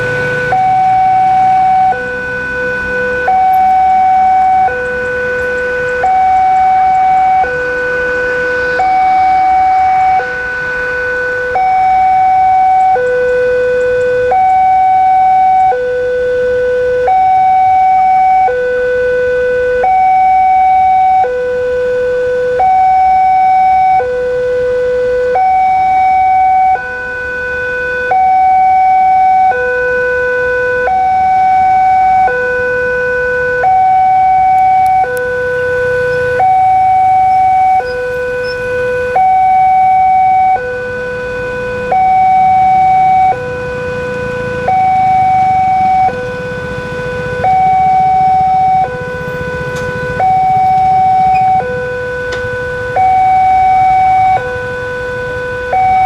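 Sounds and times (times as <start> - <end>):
two-tone level crossing siren: 0.0 - 56.0.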